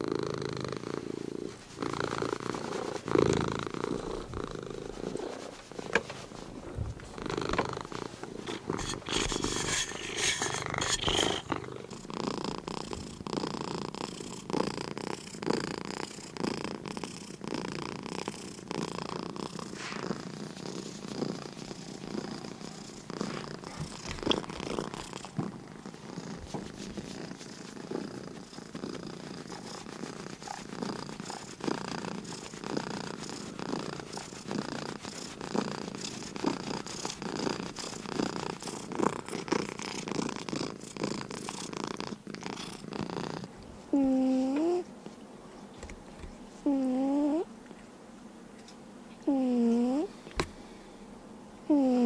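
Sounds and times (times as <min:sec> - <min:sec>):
cat purring: 0:00.0 - 0:45.2, 0:45.8 - 0:47.5, 0:49.2 - 0:50.6, 0:51.6 - 0:52.0.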